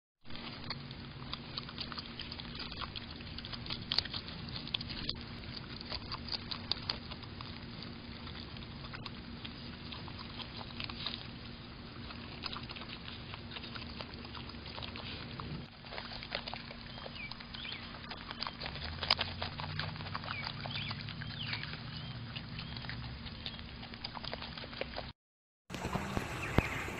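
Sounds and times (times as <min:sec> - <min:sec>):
animals chewing soft fruit: 0:00.2 - 0:26.9
steady low hum: 0:00.3 - 0:25.1.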